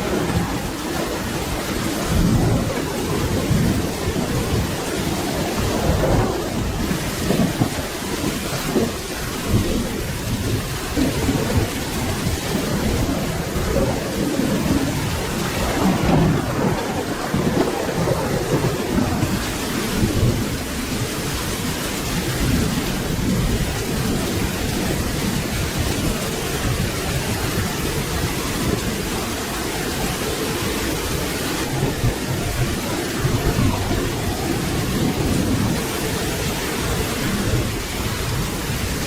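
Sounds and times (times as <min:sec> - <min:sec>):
rumble of thunder: 0:00.0 - 0:39.0
steady rain: 0:00.0 - 0:39.0.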